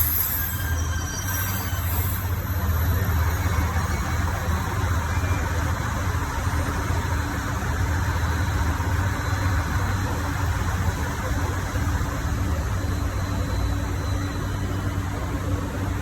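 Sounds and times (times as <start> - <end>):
diesel train engines idling: 0.0 - 16.0.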